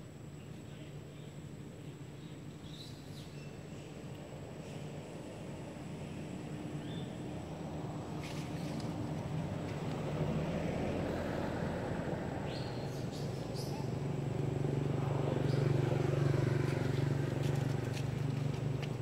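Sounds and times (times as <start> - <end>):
vehicle engine droning: 3.5 - 19.0.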